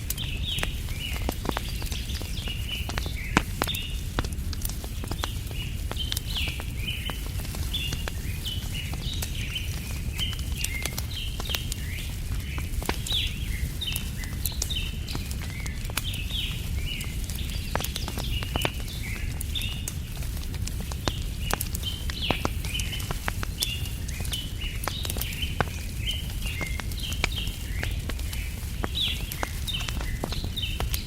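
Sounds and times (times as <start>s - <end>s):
birds chirping: 0.0s - 31.0s
campfire crackling and popping: 0.0s - 31.0s.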